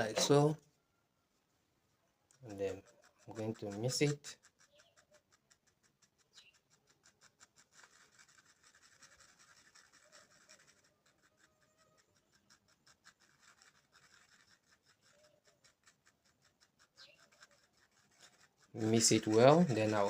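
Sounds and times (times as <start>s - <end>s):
stick stirring glue: 2.3s - 20.0s.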